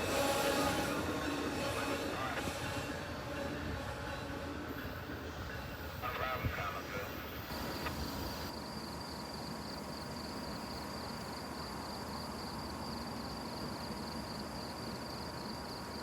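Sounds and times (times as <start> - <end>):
insects chirping: 0.0 - 16.0
train noise: 0.0 - 16.0.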